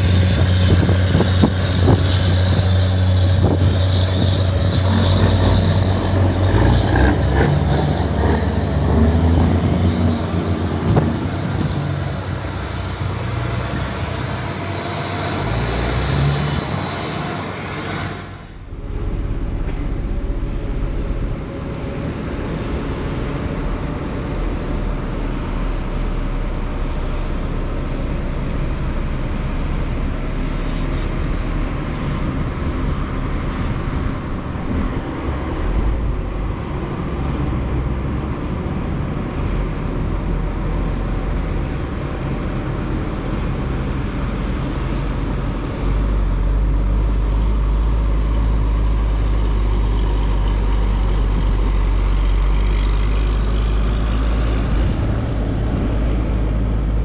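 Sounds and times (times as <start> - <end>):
heavy farm machinery running: 0.0 - 57.0.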